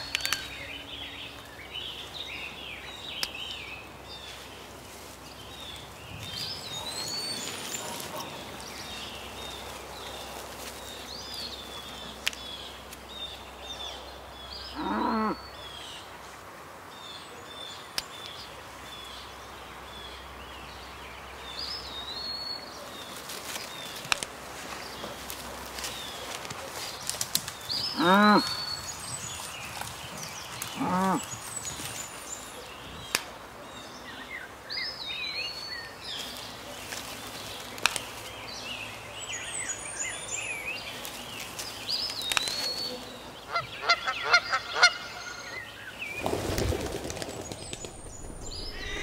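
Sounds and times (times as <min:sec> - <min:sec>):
birds chirping: 0:00.0 - 0:16.1, 0:17.0 - 0:49.0.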